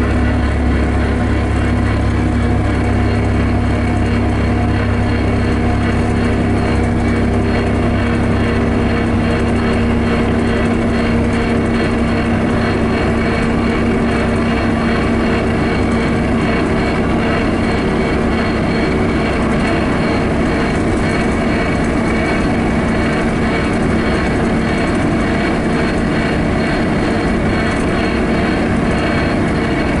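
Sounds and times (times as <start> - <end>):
road and engine noise in vehicle: 0.0 - 30.0.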